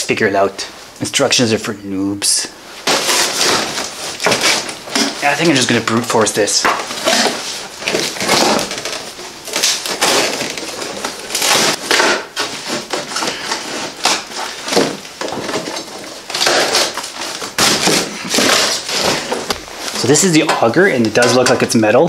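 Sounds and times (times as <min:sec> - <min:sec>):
cardboard rustling and scraping: 0:02.8 - 0:21.8.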